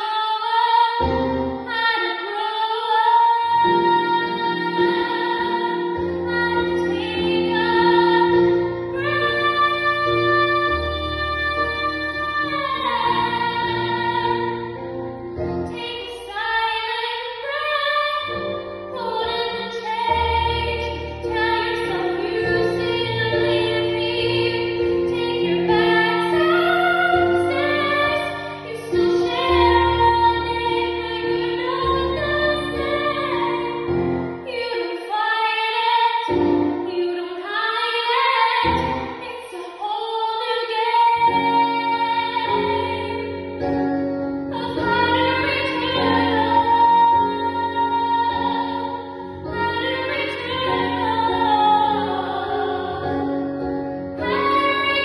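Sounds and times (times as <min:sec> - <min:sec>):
woman singing with vibrato: 0:00.0 - 0:14.9, 0:15.7 - 0:43.6, 0:44.5 - 0:53.4, 0:54.2 - 0:55.0
instrumental backing music: 0:00.4 - 0:55.0.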